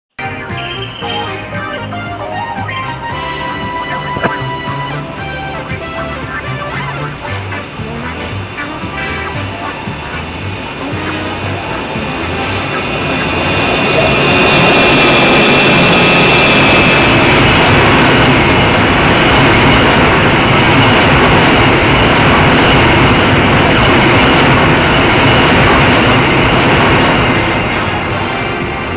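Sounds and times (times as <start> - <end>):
loud vehicle roar: 0.5 - 28.9
thin high whine: 3.1 - 28.9.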